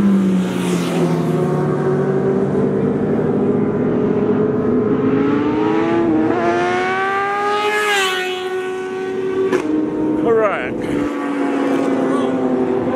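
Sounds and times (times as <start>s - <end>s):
motorcycle passing at speed: 0.0s - 12.9s.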